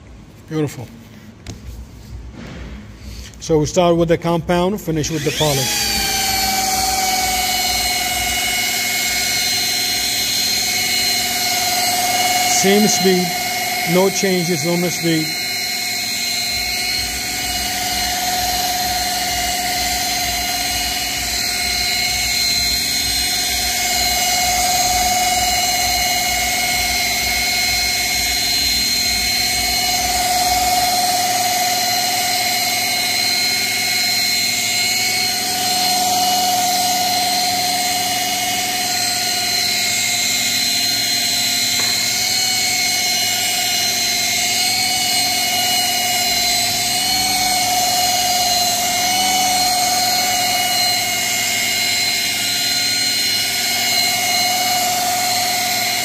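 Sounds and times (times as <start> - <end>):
rotary polisher motor whine: 4.8 - 56.0.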